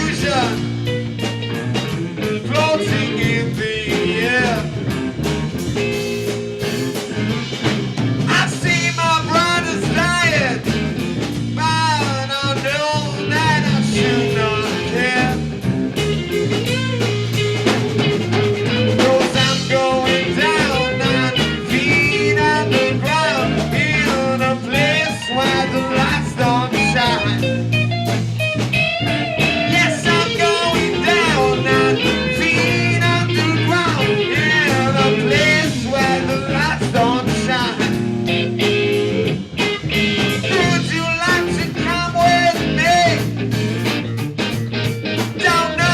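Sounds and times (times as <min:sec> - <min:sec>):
rock band with guitar and drums: 0:00.0 - 0:45.9.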